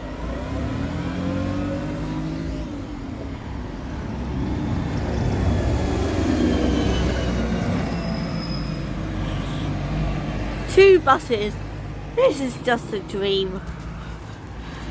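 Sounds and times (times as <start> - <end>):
bus diesel engine accelerating: 0.0 - 14.9.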